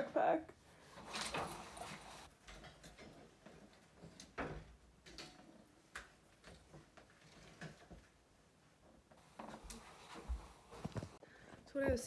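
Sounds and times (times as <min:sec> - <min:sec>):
clothes and bags handled on metal rack: 0:00.0 - 0:12.0.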